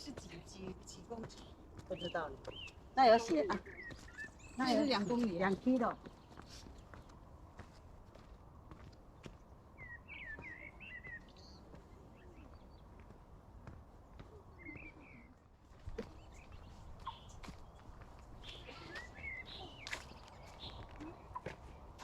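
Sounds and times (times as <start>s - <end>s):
low steady outdoor noise: 0.0s - 22.0s
small birds twittering: 0.0s - 22.0s.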